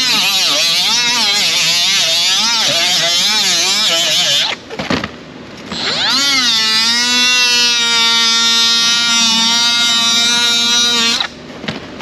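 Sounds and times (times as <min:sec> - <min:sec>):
power tool whining: 0:00.0 - 0:04.8, 0:05.6 - 0:11.4.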